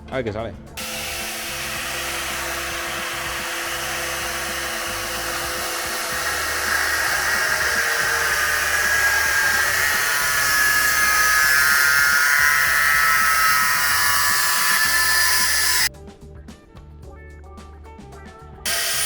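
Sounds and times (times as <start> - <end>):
angle grinder cutting metal pipe: 0.8 - 15.9, 18.7 - 19.0.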